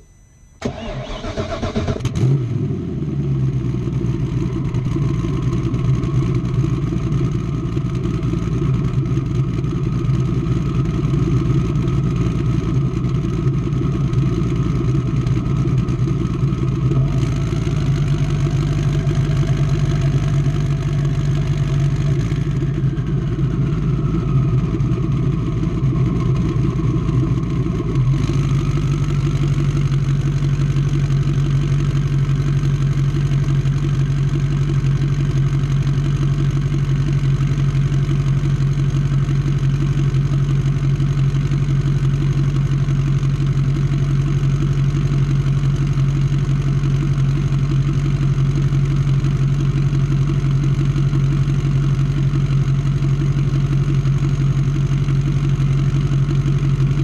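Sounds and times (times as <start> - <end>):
boat engine idling: 4.2 - 57.0.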